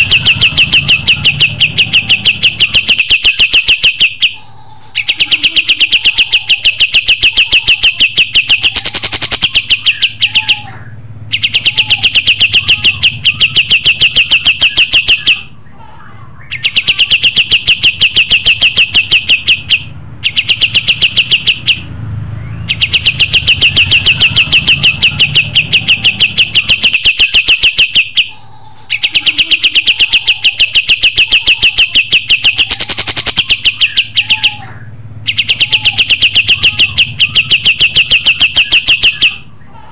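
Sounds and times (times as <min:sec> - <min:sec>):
songbird trilling: 0:00.0 - 0:04.4, 0:05.0 - 0:15.6, 0:16.4 - 0:39.5.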